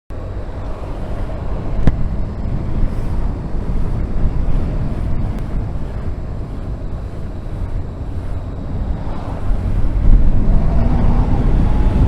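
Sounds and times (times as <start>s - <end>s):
motorcycle low rumble: 0.1s - 12.0s
wind buffeting microphone: 0.1s - 12.0s.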